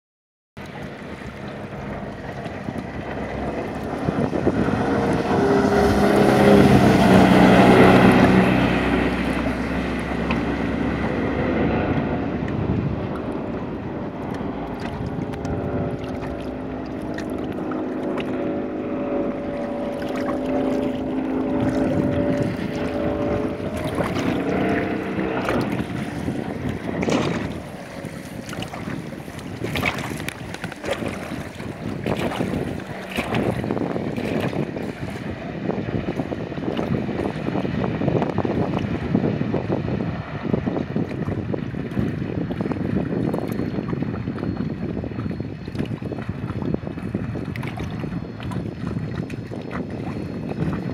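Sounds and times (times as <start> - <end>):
outboard motor running at speed: 0.6 - 50.9
wind buffeting microphone: 0.6 - 50.9.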